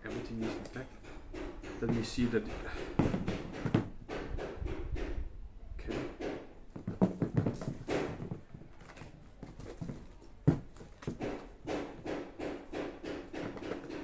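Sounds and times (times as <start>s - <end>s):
shoe knocks: 1.3s - 5.2s, 5.9s - 14.0s.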